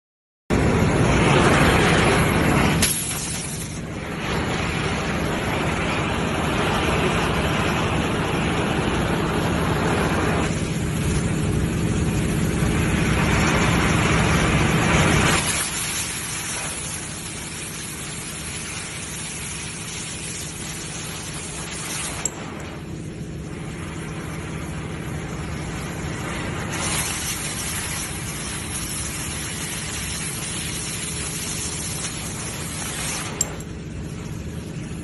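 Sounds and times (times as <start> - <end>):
cutting torch hissing: 0.7 - 35.0.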